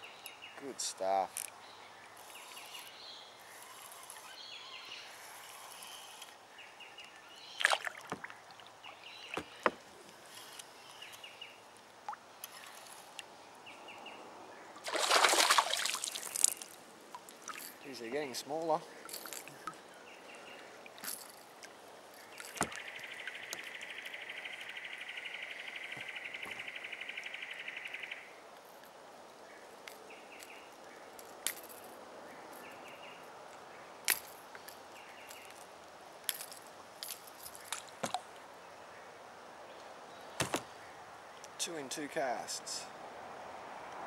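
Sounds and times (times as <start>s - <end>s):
distant road traffic hum: 7.9s - 44.0s.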